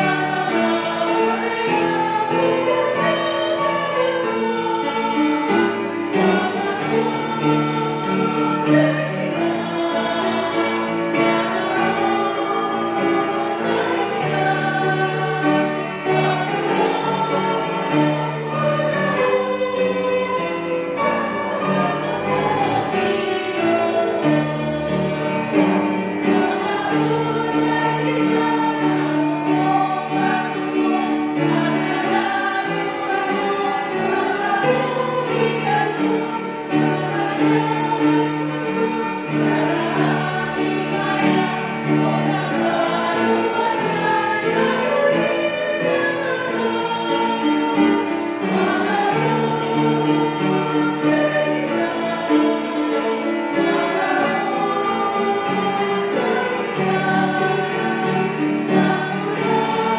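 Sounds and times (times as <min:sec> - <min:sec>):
woman singing: 0:00.0 - 0:05.3, 0:06.1 - 0:25.2, 0:26.2 - 0:53.0, 0:53.6 - 0:59.9
instrumental accompaniment: 0:00.0 - 0:59.9.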